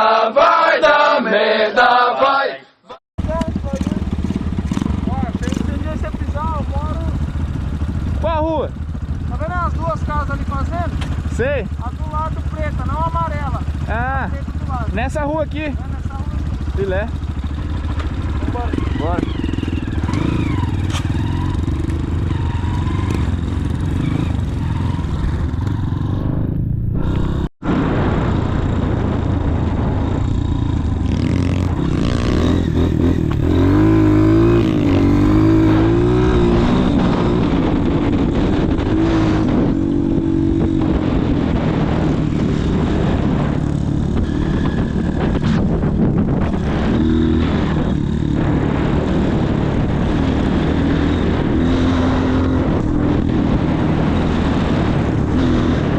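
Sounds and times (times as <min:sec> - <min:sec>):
motorcycle engine running: 0:03.2 - 0:55.9.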